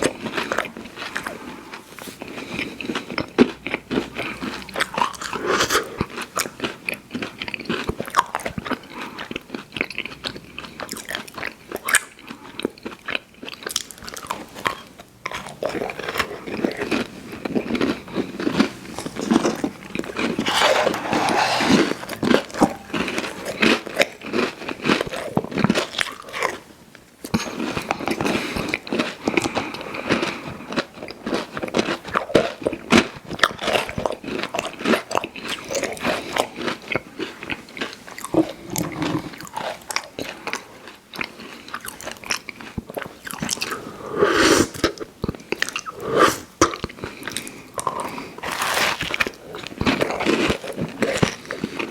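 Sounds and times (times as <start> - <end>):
crunchy biting and chewing: 0.0 - 51.9.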